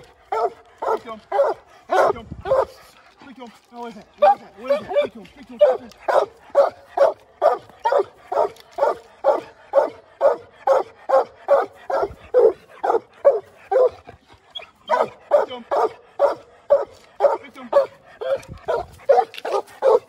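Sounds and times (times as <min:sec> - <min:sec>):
dogs barking: 0:00.0 - 0:03.0, 0:04.2 - 0:20.0.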